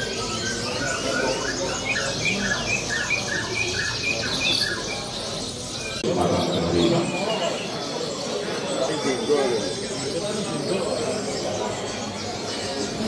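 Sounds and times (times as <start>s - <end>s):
songbird whistling: 0.0s - 10.5s
birds chirping faintly: 0.0s - 13.0s.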